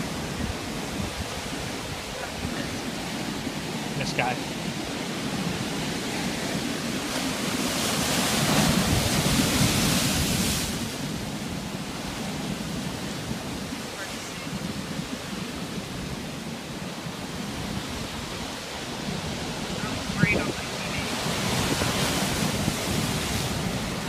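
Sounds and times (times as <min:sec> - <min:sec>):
surf breaking over rocks: 0:00.0 - 0:24.0.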